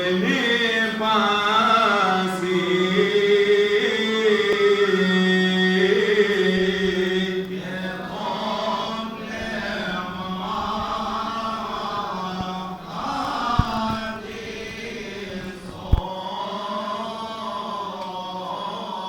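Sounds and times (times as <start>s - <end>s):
men chanting slow melody: 0.0s - 19.0s.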